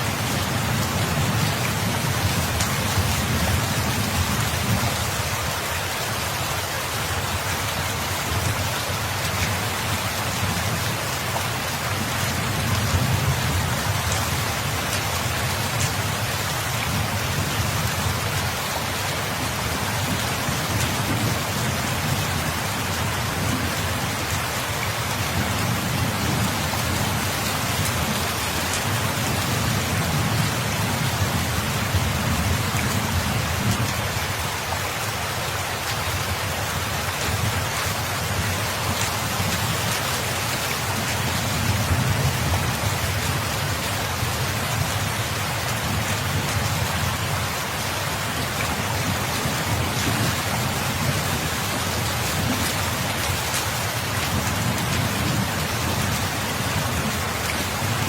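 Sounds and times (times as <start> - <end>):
dense rain falling: 0.0 - 58.0.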